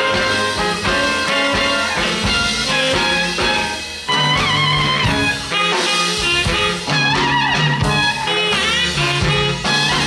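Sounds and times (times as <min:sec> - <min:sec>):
jazz band playing swing: 0:00.0 - 0:10.0.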